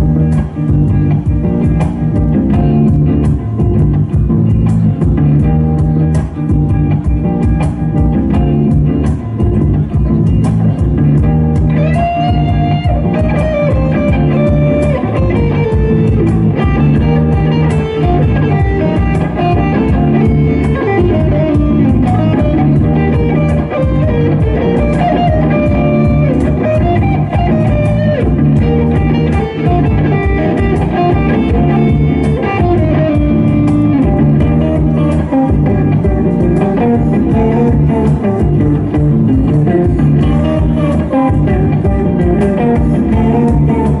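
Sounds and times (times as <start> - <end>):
lead guitar solo: 0.0 - 44.0
live rock band playing: 0.0 - 44.0.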